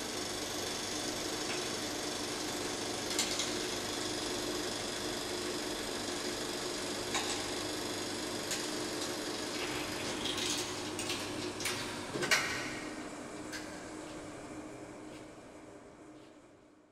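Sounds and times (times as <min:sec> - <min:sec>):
film projector whirring: 0:00.0 - 0:14.9.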